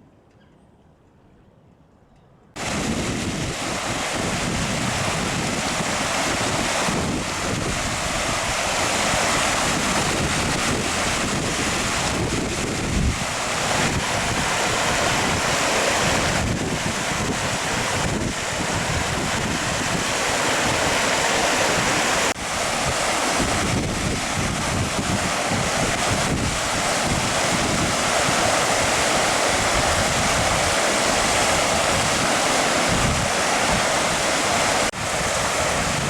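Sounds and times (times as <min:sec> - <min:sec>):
floodwater rushing: 0:02.6 - 0:36.0
wind buffeting microphone: 0:02.6 - 0:36.0.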